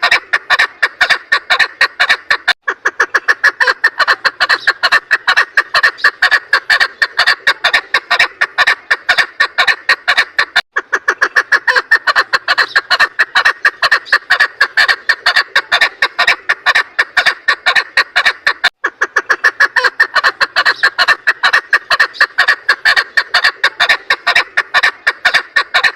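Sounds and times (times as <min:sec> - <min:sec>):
partridge clucking: 0:00.0 - 0:25.9.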